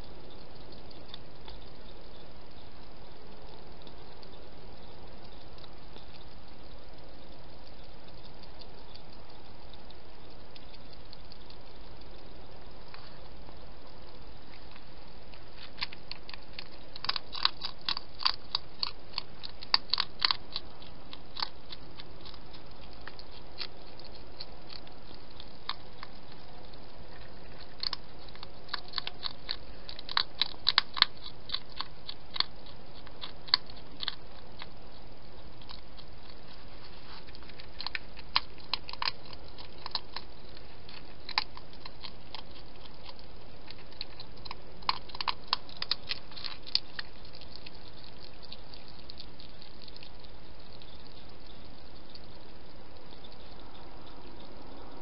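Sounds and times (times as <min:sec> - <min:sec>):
hedgehog chewing crunchily: 0:00.0 - 0:55.0.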